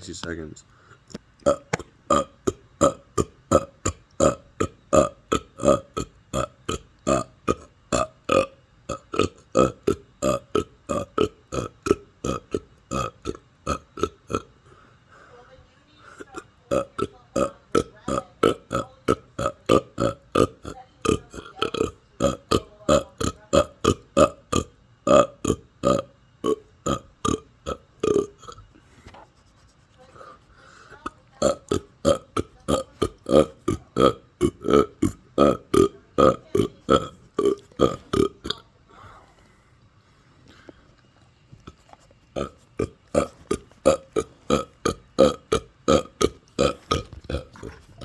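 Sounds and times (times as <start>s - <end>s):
person burping: 1.4s - 14.6s, 16.2s - 28.8s, 30.9s - 38.7s, 42.4s - 48.0s.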